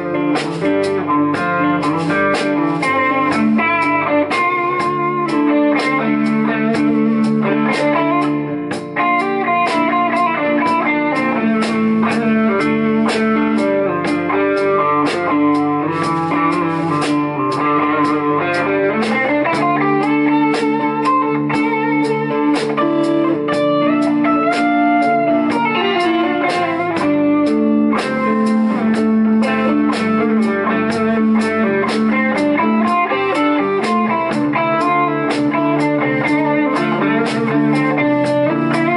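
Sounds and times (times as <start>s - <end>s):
drums: 0.0s - 38.9s
electric bass: 0.0s - 38.9s
electric guitars: 0.0s - 38.9s
lead guitar with bent notes: 0.0s - 38.9s.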